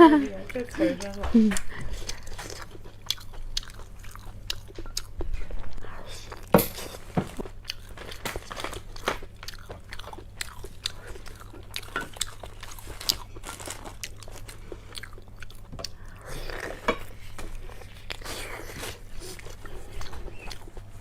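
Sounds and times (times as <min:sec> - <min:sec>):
person chewing crunchy food: 0:00.5 - 0:21.0.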